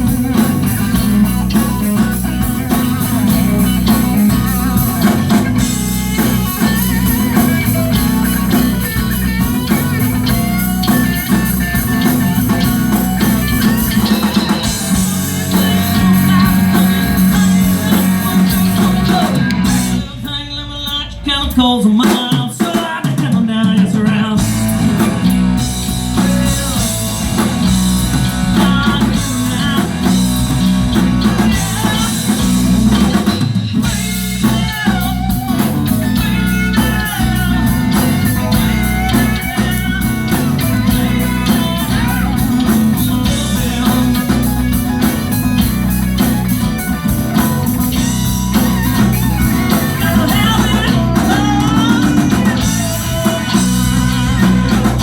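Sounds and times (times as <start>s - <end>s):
electric guitar bending notes: 0.0s - 21.3s, 24.4s - 55.0s
live rock band playing: 0.0s - 55.0s.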